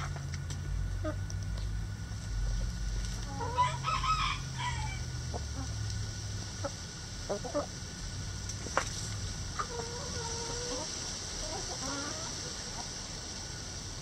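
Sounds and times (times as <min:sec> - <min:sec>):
chickens calling and clucking: 0:00.0 - 0:01.7, 0:02.3 - 0:14.0.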